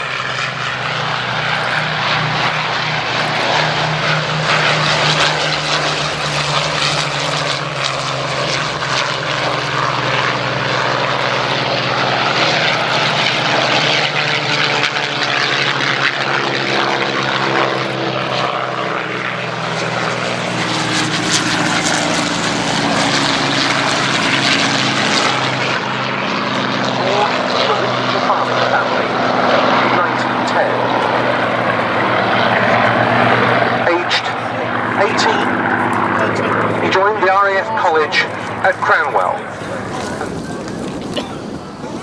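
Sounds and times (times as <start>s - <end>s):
propeller aircraft engines flying past: 0.0s - 42.0s.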